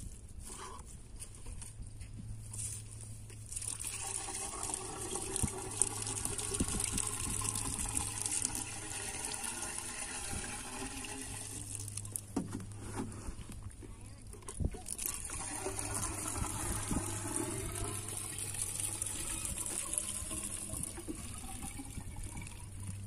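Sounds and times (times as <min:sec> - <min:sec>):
water glugging from plastic jerrycan: 0:03.6 - 0:13.7, 0:14.3 - 0:23.0.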